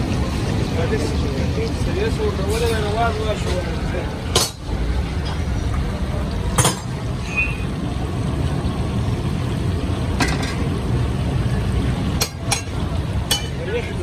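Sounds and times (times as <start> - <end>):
busy kitchen rumble: 0.0 - 14.0.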